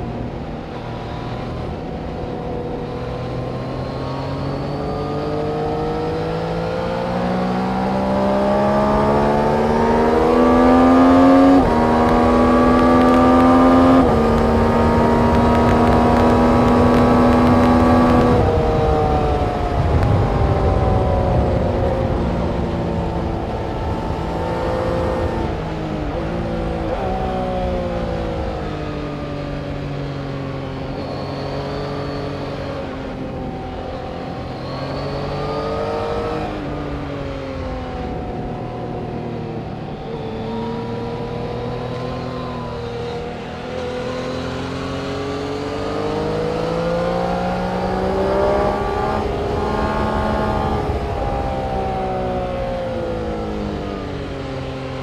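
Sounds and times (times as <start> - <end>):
racing motorcycle engines: 0.0 - 55.0.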